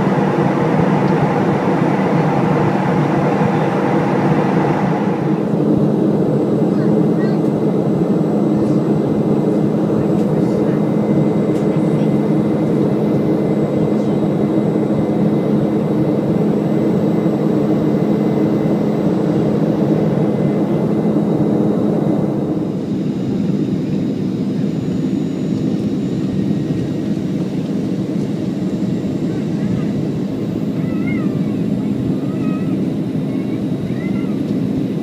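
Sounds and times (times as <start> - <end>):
airliner cabin air rush: 0.0 - 35.0
low engine hum: 0.0 - 35.0.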